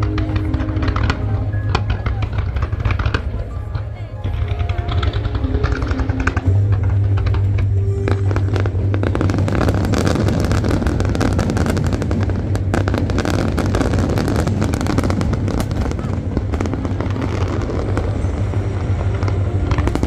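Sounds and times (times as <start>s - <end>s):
fireworks bangs and crackles: 0.0s - 20.0s
low rumble: 0.0s - 20.0s.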